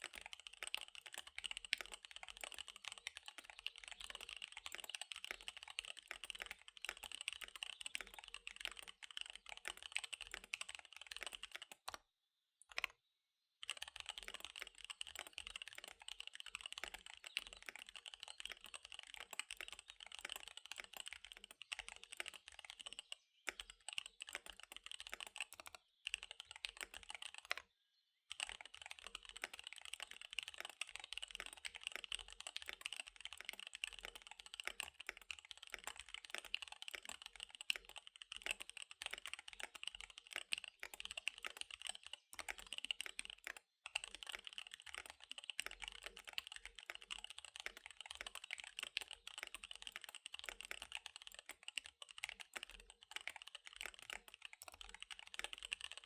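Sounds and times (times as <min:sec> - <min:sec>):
mechanical keyboard typing: 0:00.0 - 0:12.0, 0:12.7 - 0:12.9, 0:13.6 - 0:27.6, 0:28.3 - 0:56.0.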